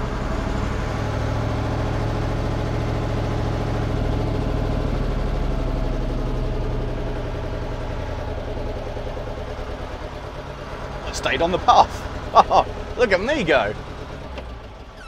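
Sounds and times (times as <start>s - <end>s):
fire engine running from inside cab: 0.0s - 15.0s.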